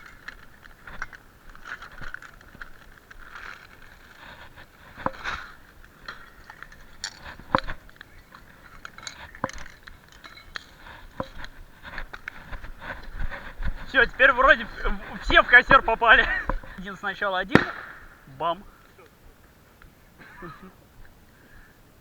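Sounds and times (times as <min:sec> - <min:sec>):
bonfire crackling and popping: 0:00.0 - 0:20.2.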